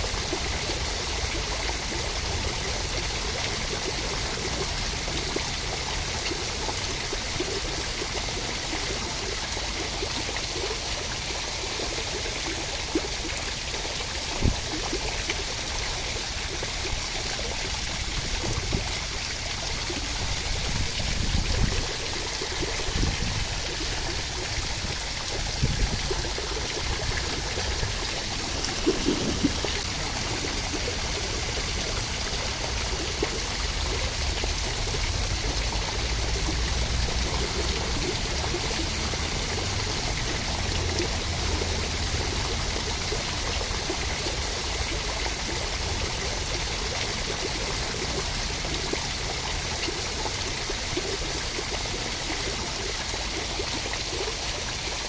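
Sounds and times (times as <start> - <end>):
steady rain: 0.0 - 46.8.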